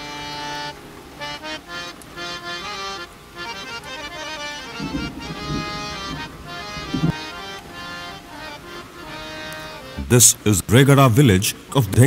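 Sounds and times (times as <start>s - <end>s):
reedy instrumental music: 0.0s - 10.8s.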